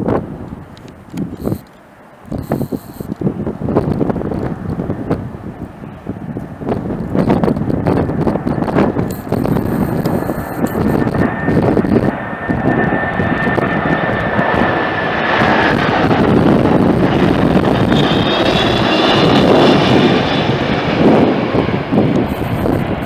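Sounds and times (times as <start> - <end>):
jet airliner engines roaring: 0.0 - 23.0.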